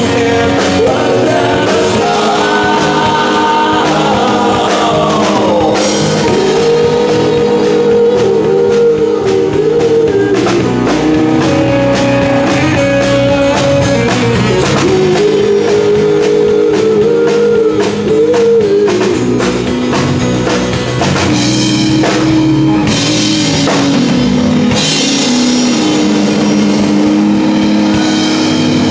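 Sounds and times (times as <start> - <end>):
drum kit: 0.0 - 28.9
electric guitar bending notes: 0.0 - 28.9.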